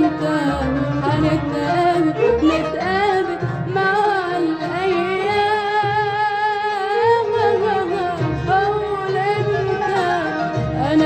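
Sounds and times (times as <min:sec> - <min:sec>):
classical ensemble music: 0:00.0 - 0:05.6, 0:07.0 - 0:11.0.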